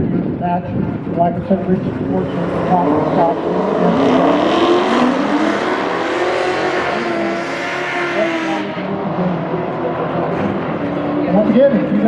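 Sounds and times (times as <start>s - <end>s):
steady rush of noise: 0.0s - 12.0s
car engine revving: 1.7s - 12.0s.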